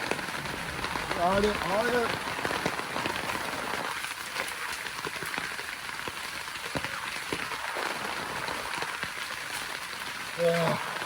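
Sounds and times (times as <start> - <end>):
heavy rain on a plastic tarp: 0.0 - 11.0.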